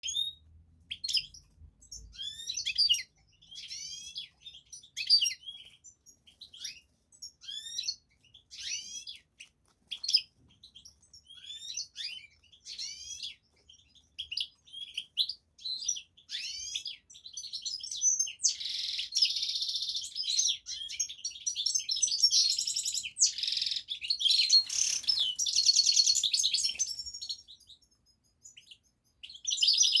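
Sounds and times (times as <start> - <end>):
songbird chirping and trilling: 0.0 - 30.0.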